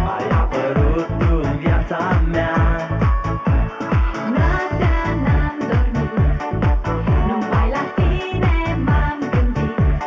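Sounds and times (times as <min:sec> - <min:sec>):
deep kick drum: 0:00.0 - 0:10.0.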